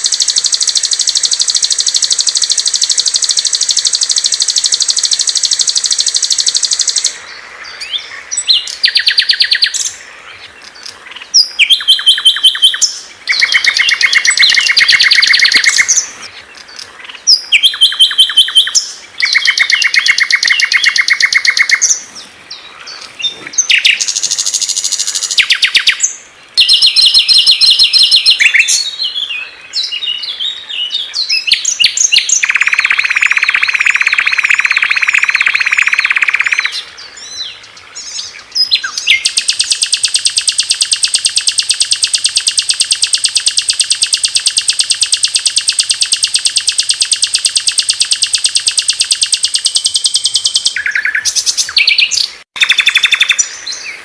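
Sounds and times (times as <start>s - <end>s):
songbirds trilling and chattering: 0.0s - 54.0s.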